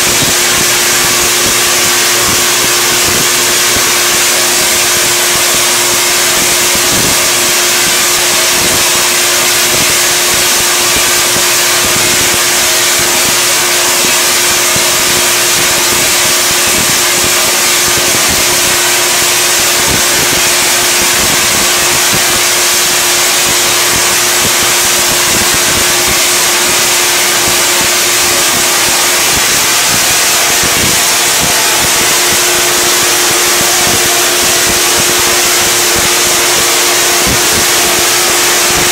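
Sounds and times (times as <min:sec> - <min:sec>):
steady pitched hum: 0:00.0 - 0:38.9
tesla coil crackling buzz: 0:00.0 - 0:38.9.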